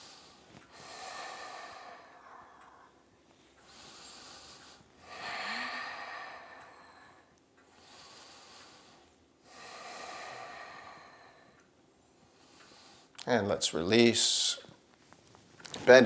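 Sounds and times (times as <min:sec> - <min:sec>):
man breathing deeply: 0:00.0 - 0:13.2.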